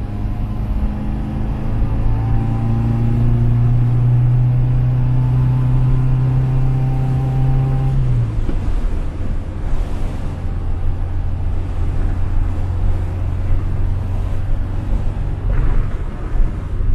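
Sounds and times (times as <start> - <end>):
car engine at constant revs: 0.0 - 16.9
road rumble: 0.0 - 16.9.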